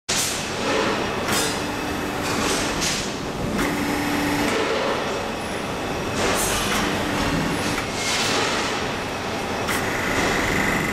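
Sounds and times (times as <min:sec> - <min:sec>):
test machine mechanical noise: 0:00.2 - 0:10.9.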